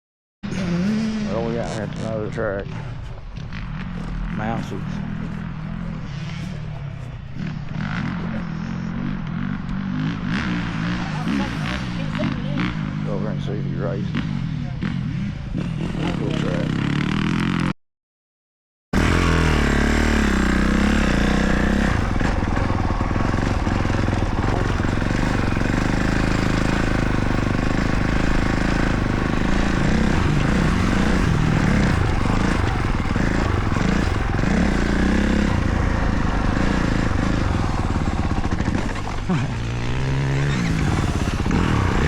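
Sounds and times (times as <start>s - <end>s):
motocross bike engine running: 0.4s - 17.7s, 19.0s - 42.0s.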